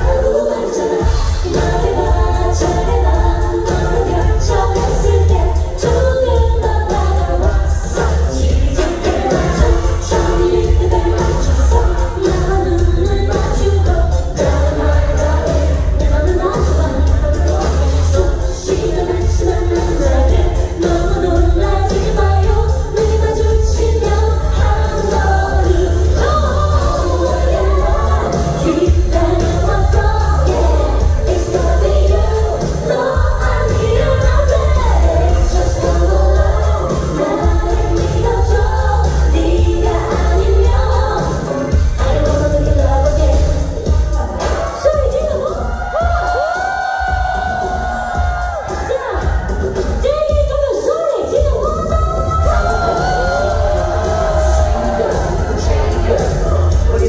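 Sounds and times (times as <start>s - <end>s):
live pop band with bass beat: 0.0s - 57.0s
woman singing into microphone: 0.0s - 57.0s.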